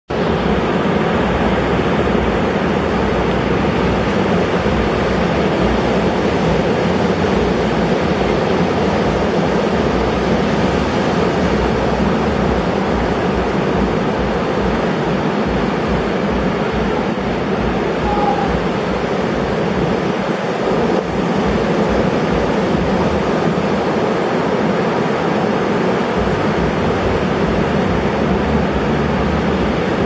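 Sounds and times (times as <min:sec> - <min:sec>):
heavy surf breaking: 0:00.1 - 0:30.0.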